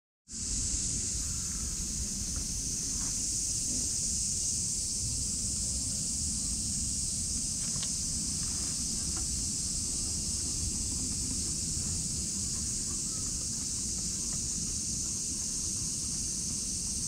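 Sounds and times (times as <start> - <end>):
high-pitched outdoor hiss: 0.3 - 17.0
wind rumble on microphone: 0.4 - 17.0.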